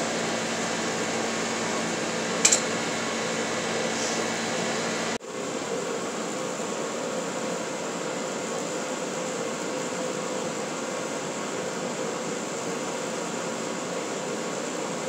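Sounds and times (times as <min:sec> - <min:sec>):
blower humming and hissing: 0:00.0 - 0:15.0.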